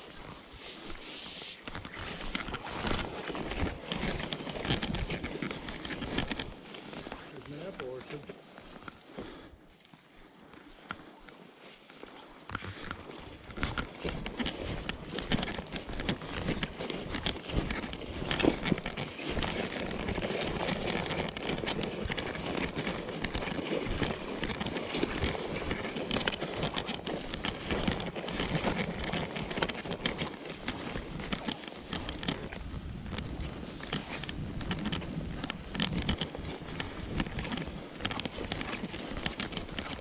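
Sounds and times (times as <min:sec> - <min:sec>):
footsteps through dry grass: 0:00.0 - 0:40.0.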